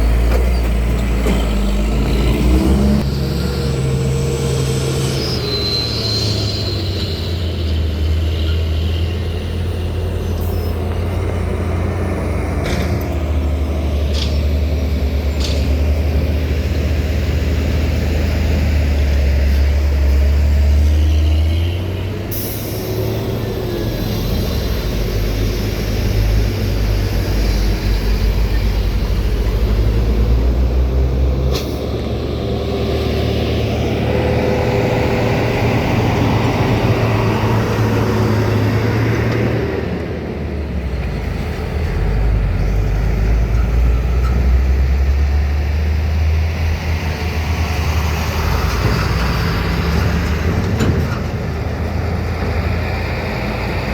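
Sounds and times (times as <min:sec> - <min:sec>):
diesel truck engines rumbling: 0:00.0 - 0:53.9.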